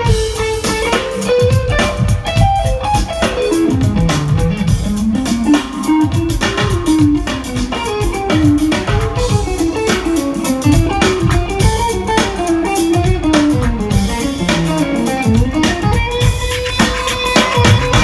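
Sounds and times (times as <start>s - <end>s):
electric guitar melody: 0.0s - 18.0s
jazz-funk band playing: 0.0s - 18.0s.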